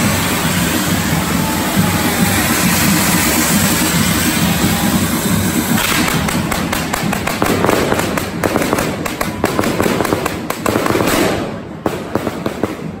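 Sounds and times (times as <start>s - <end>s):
fireworks cracking and popping: 0.0s - 13.0s
fireworks hissing: 0.0s - 13.0s.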